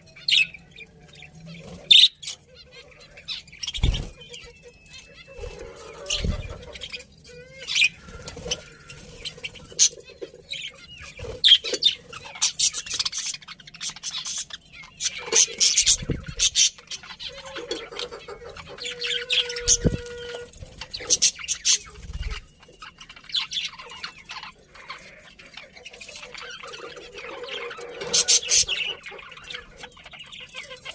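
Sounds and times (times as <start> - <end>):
budgerigars chirping: 0.0 - 30.9.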